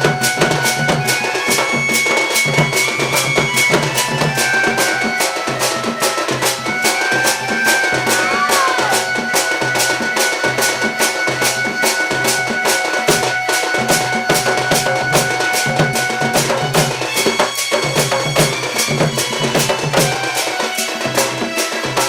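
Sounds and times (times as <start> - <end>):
drums and metallic strikes: 0.0 - 22.0.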